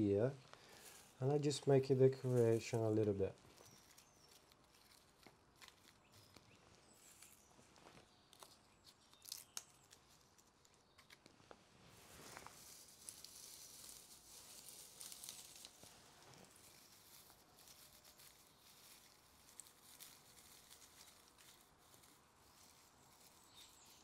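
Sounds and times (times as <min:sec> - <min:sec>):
dry grass rustling and crackling: 0:00.4 - 0:24.0.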